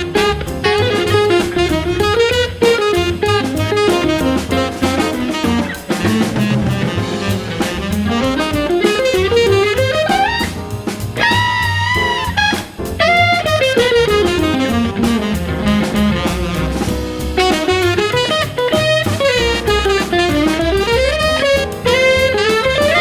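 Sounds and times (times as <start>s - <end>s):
bass: 0.0s - 23.0s
drums: 0.0s - 23.0s
saxophone solo: 0.0s - 23.0s.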